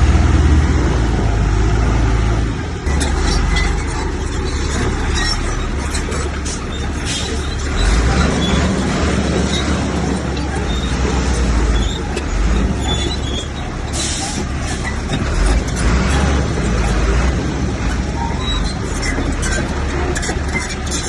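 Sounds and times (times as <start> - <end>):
diesel machinery rumbling: 0.0 - 21.0
metallic clanks and rattles: 2.8 - 21.0.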